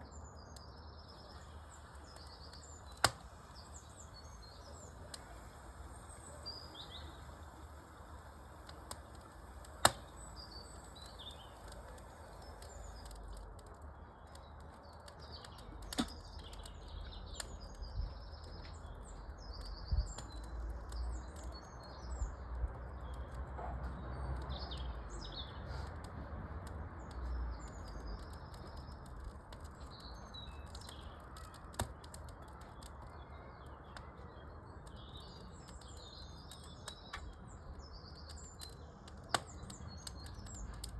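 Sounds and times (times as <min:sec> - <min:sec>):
birds chirping: 0:00.0 - 0:26.0, 0:27.0 - 0:40.9
wood fire crackling and popping: 0:00.1 - 0:40.9.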